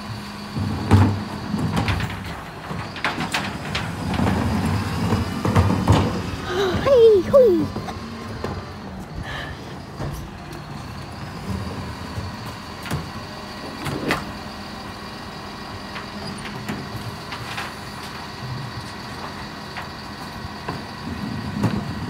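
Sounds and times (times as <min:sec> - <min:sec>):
bin lorry engine running: 0:00.0 - 0:22.0.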